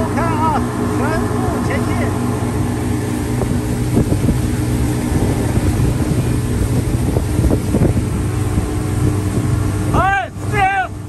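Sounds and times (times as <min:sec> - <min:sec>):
motorboat engine running: 0:00.0 - 0:11.0
water rushing past hull: 0:00.0 - 0:11.0
wind buffeting microphone: 0:00.0 - 0:11.0.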